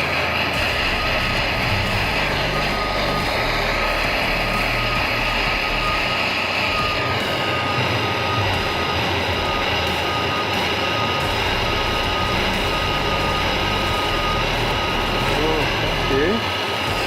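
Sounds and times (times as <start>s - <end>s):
heating tool rushing with high whine: 0.0s - 17.0s.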